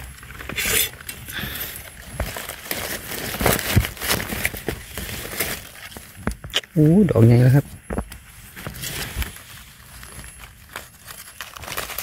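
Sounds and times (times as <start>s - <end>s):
dry leaves rustling and crackling: 0.0s - 6.2s, 8.5s - 12.0s.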